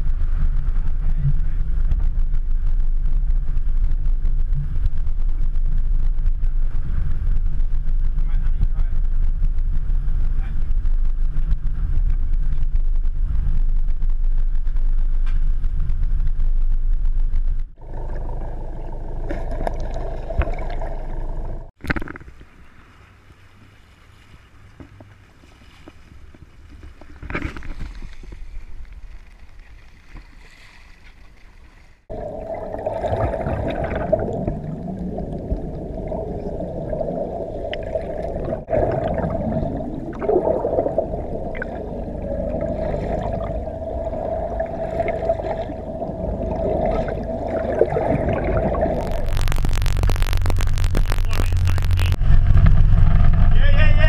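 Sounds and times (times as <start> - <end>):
wind rumble: 0.0 - 21.8, 32.0 - 54.0
boat engine rumble: 0.0 - 54.0
water against hull: 0.0 - 54.0.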